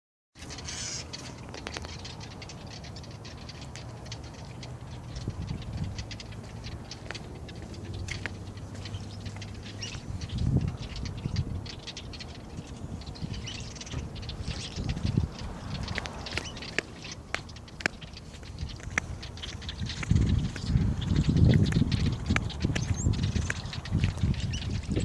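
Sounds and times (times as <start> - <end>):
small birds chirping: 0.4 - 25.0.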